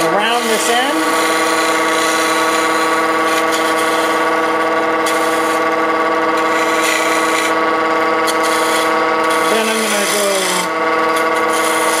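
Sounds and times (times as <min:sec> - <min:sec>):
gouge scraping spinning wood: 0:00.0 - 0:12.0
lathe motor whine: 0:00.0 - 0:12.0.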